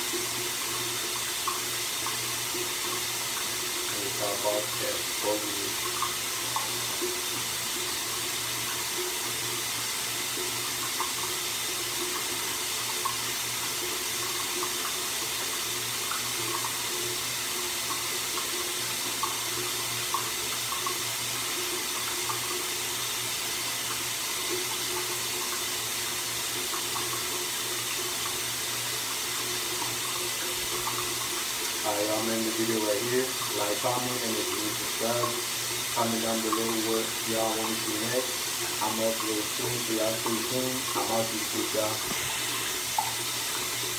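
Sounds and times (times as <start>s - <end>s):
water running from tap: 0.0s - 43.9s.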